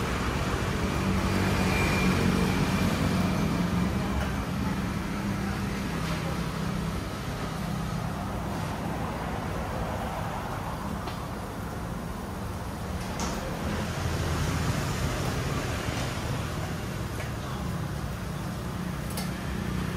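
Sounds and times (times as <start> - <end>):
road traffic noise: 0.0 - 19.9.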